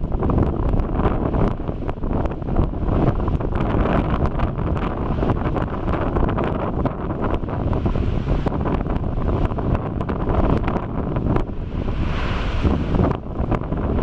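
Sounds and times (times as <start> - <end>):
lava crackles and pops: 0.0 - 14.0
lava rushing and churning: 0.0 - 14.0
wind on microphone: 0.0 - 14.0.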